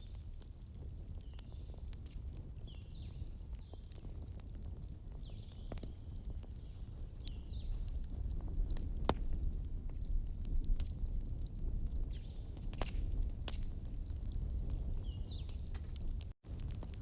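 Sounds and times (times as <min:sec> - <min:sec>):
firewood crackles and pops: 0:00.0 - 0:17.0
wood fire rumbling: 0:00.0 - 0:17.0.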